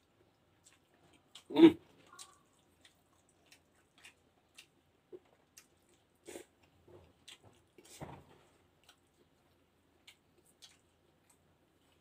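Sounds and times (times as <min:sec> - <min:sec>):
man chewing: 0:00.0 - 0:12.0.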